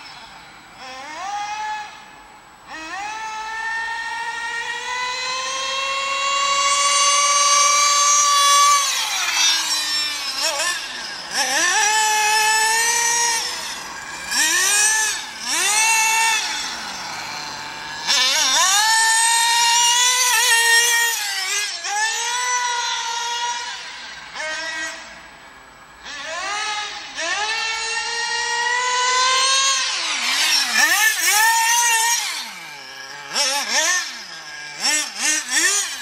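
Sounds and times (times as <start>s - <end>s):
rc car engine revving: 0.0s - 36.0s.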